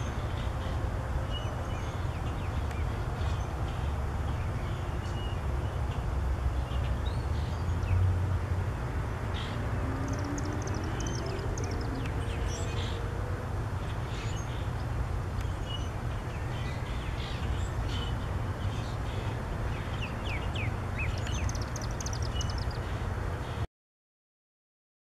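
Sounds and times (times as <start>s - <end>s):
songbirds chirping: 0.0s - 8.2s, 9.0s - 23.6s.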